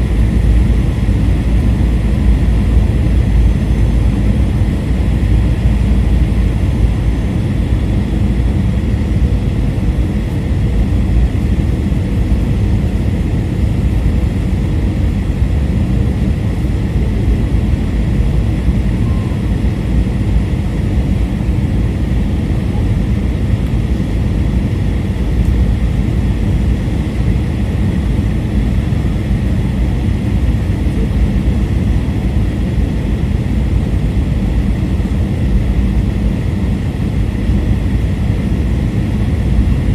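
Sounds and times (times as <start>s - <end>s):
airplane cabin rumble: 0.0s - 39.9s
faint steady whine: 0.0s - 39.9s.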